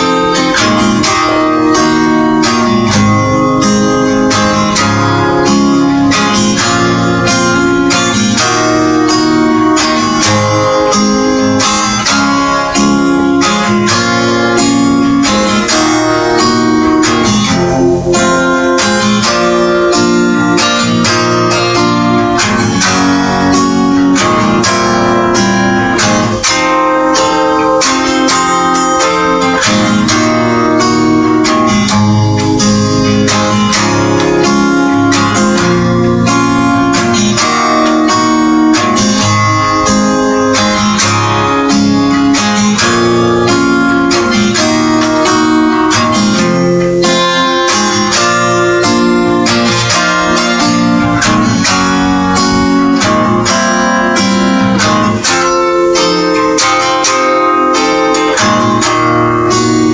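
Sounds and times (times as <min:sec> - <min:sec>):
acoustic guitar picking and strumming: 0:00.0 - 0:59.9.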